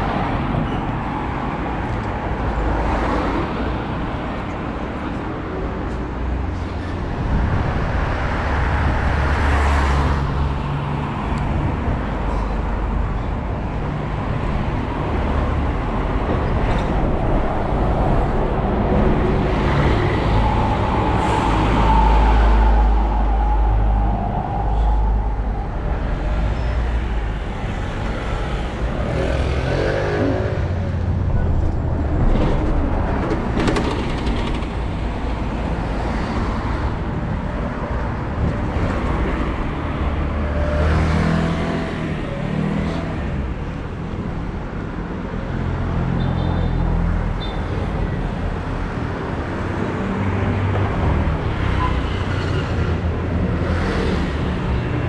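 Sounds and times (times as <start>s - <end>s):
car engines passing: 0.0s - 46.1s
bus engine: 0.0s - 55.0s.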